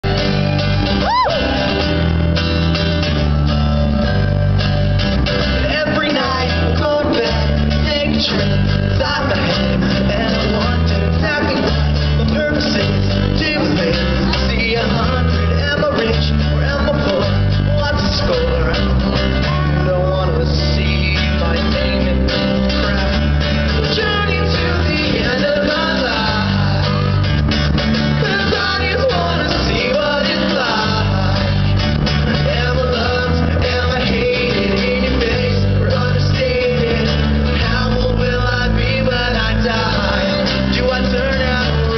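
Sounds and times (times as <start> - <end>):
bass line: 0.0 - 41.9
electric guitar: 0.0 - 41.9
lead singer: 0.0 - 41.9
strummed acoustic guitar: 0.0 - 41.9.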